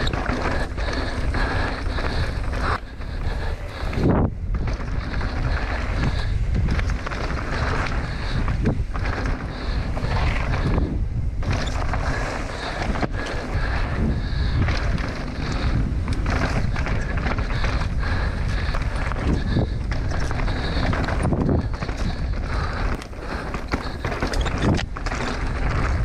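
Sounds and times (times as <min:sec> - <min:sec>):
bike frame rattling and knocking: 0:00.0 - 0:26.0
tyres rolling over dirt and rock: 0:00.0 - 0:26.0
wind buffeting microphone: 0:00.0 - 0:26.0.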